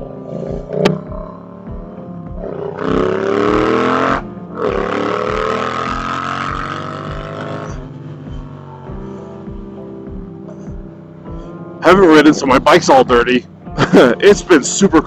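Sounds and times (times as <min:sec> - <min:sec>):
motorcycle engine accelerating: 0:00.0 - 0:14.2.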